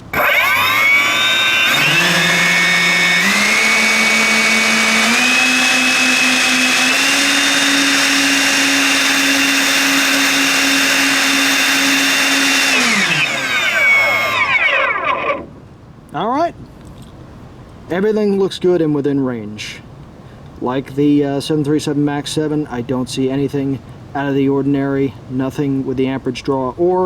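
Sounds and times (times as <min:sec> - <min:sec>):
electric ducted fans whining: 0:00.0 - 0:27.0.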